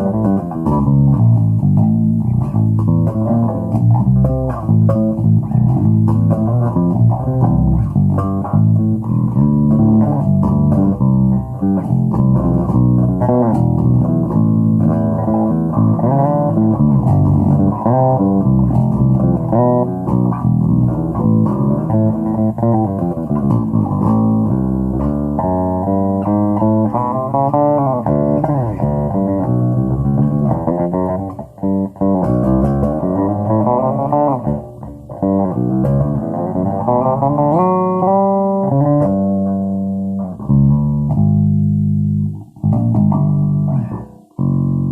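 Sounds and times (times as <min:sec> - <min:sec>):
electric bass guitar notes: 0:00.0 - 0:44.9.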